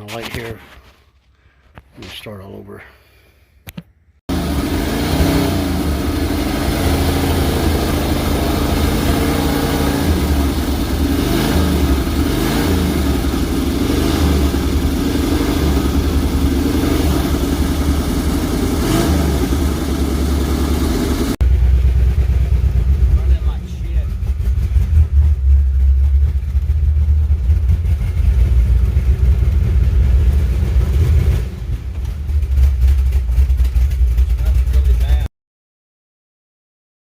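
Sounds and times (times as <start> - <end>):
pickup engine running and revving: 4.3 - 35.2.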